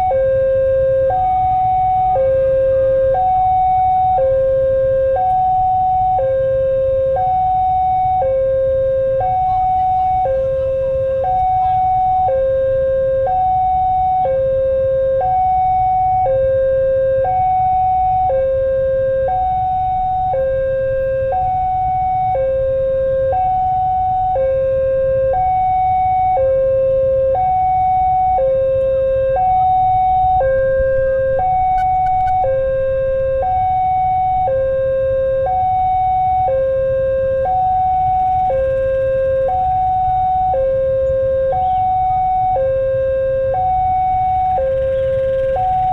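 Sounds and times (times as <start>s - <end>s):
continuous low rumble: 0.0s - 45.9s
two-tone warning siren: 0.0s - 45.9s.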